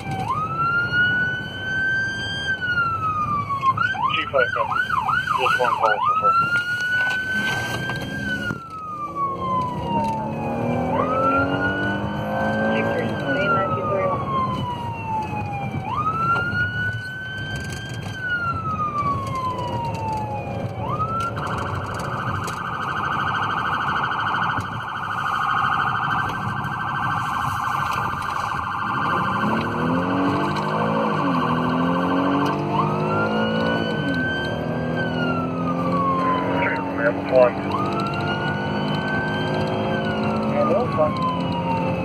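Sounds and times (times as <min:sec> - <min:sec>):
engine and road noise: 0:00.0 - 0:42.0
police siren wailing and warbling: 0:00.0 - 0:42.0.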